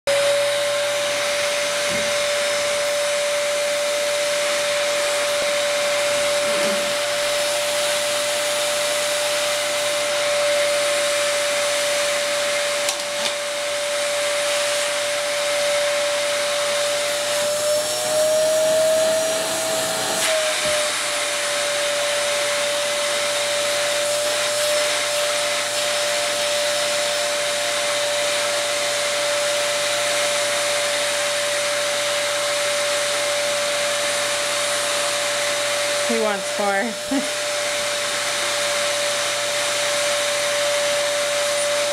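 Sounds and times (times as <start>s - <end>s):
vacuum cleaner running with high whine: 0.1s - 41.9s.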